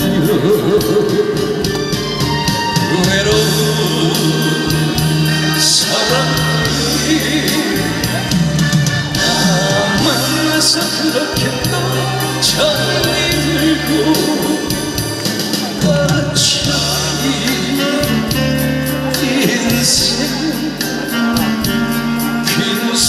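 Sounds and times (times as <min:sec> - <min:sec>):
backing track with steady beat: 0:00.0 - 0:23.0
man singing into microphone: 0:00.0 - 0:23.0.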